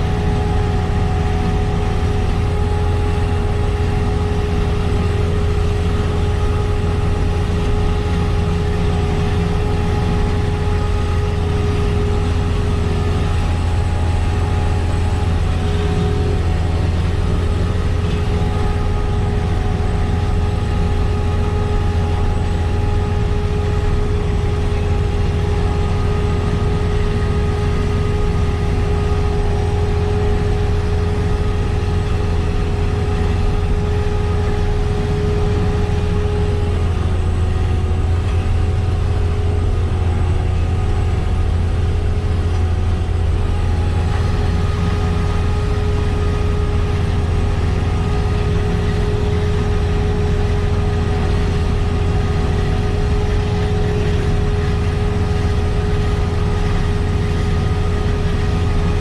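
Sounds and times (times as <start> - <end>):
diesel engine drone: 0.0 - 59.0
steady machine whine: 0.0 - 59.0.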